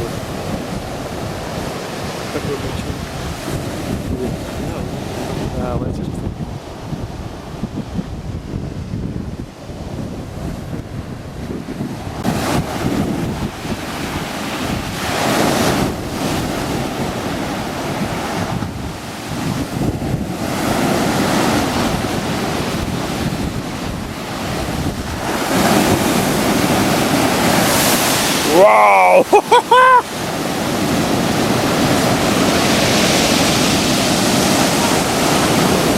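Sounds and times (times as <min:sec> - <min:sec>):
wind buffeting microphone: 0:00.0 - 0:28.6, 0:29.7 - 0:35.9
waves breaking on shore: 0:00.0 - 0:35.9.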